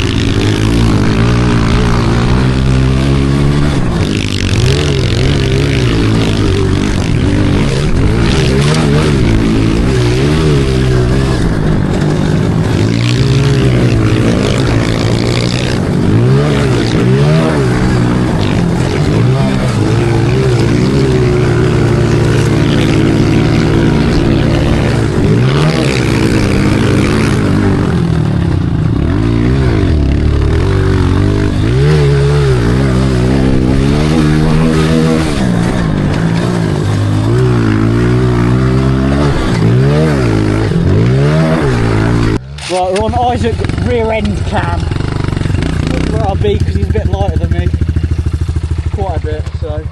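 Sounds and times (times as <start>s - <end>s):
pit bike engine revving: 0.0s - 49.9s.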